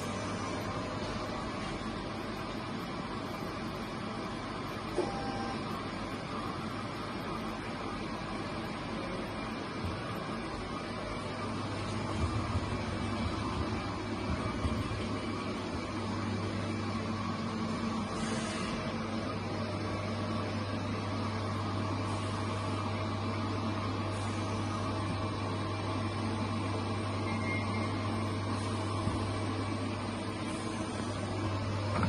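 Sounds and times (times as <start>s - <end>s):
milling machine humming: 0.0s - 32.0s.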